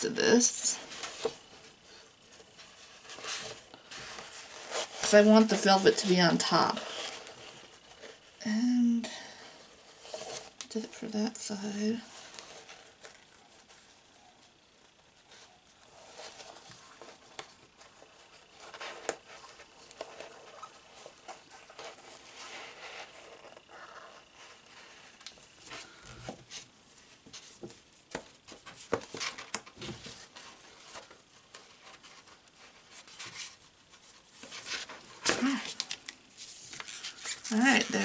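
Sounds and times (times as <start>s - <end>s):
paper rustling and crinkling: 0.7s - 8.4s, 9.3s - 38.0s.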